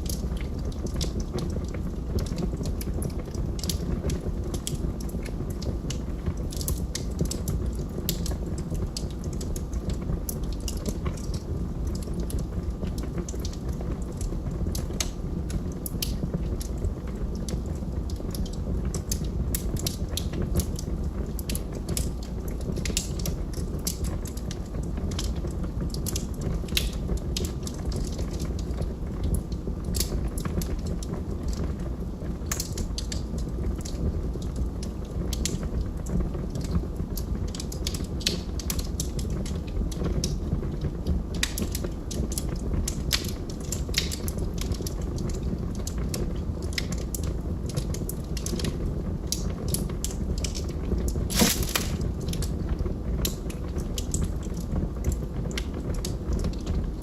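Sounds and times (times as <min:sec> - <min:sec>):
log fire crackling: 0:00.0 - 0:57.0.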